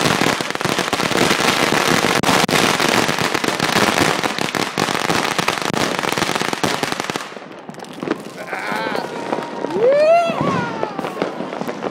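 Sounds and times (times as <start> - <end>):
firework crackling and popping: 0.0 - 11.9.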